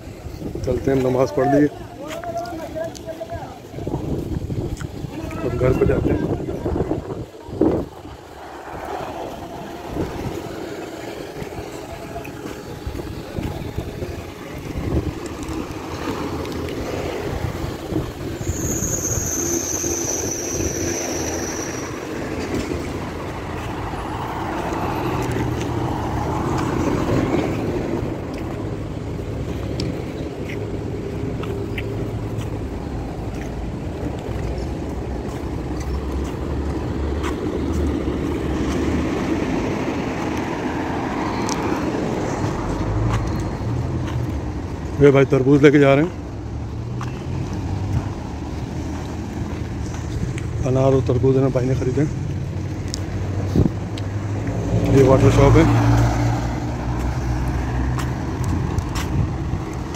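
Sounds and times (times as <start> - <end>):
cars driving past: 0.0 - 59.9.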